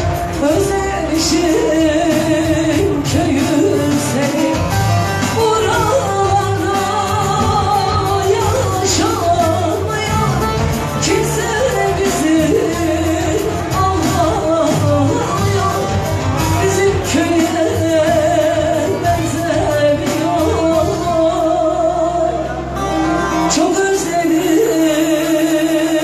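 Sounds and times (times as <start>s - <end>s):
band with keyboard and beat: 0.0s - 26.0s
woman singing into microphone: 0.0s - 26.0s.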